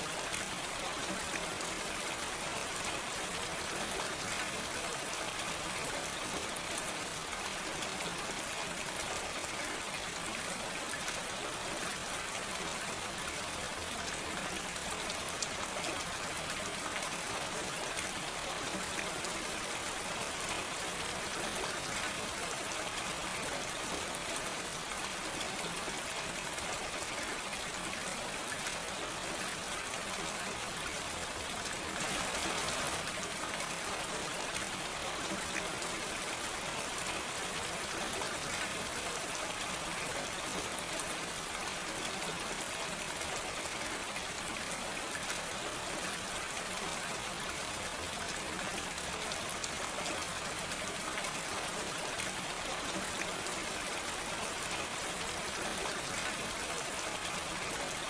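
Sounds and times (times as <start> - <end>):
gentle rain: 0.0 - 58.0.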